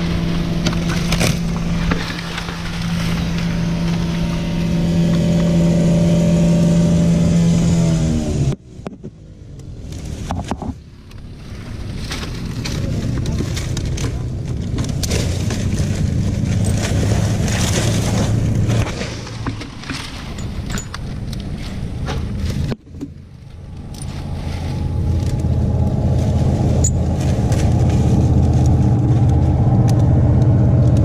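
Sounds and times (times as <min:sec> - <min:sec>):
dry palm fronds crackling: 0:00.0 - 0:05.6, 0:11.0 - 0:31.0
low engine hum: 0:00.0 - 0:31.0.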